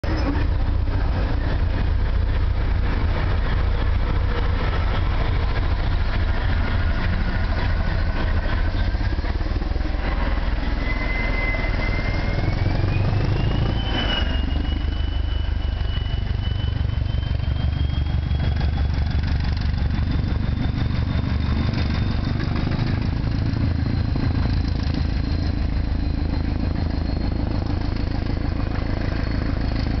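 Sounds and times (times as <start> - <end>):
diesel engine pulsing thump: 0.0 - 30.0
train whine rising in pitch: 0.0 - 30.0.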